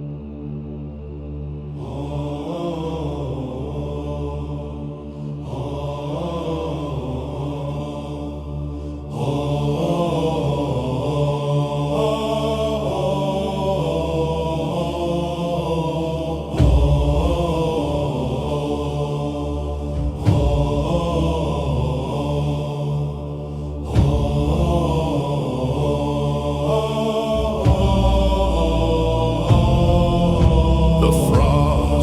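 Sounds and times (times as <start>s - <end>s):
deep drone: 0.0s - 32.0s
low wordless chanting voices: 0.0s - 32.0s.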